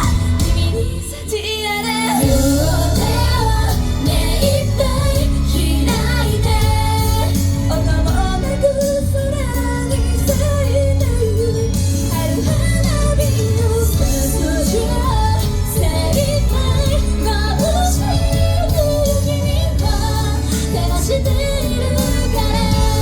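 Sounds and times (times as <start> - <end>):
pop backing track with heavy bass: 0.0 - 23.0
women singing: 0.0 - 23.0.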